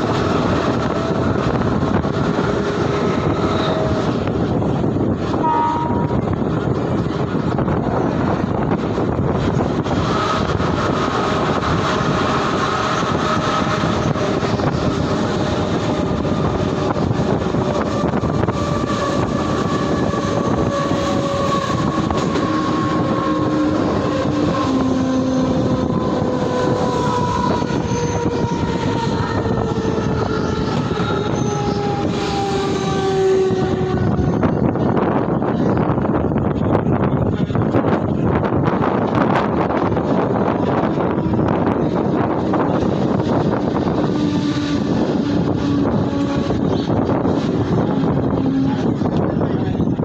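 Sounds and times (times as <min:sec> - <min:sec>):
traction motor whine: 0:00.0 - 0:35.3, 0:39.1 - 0:50.0
train running noise: 0:00.0 - 0:50.0.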